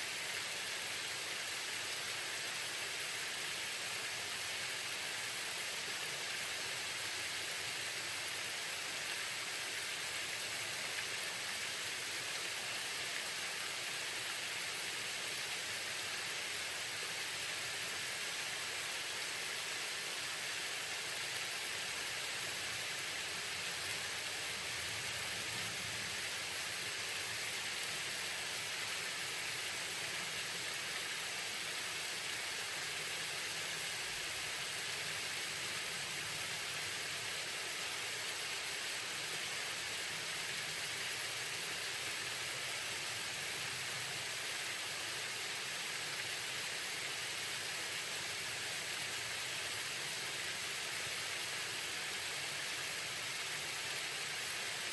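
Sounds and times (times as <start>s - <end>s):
waterfall pouring: 0.0s - 54.9s.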